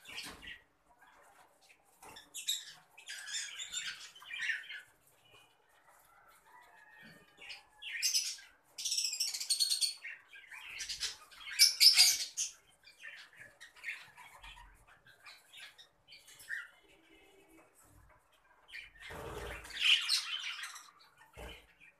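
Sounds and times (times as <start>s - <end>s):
lovebirds chirping and squawking: 0.0s - 21.9s.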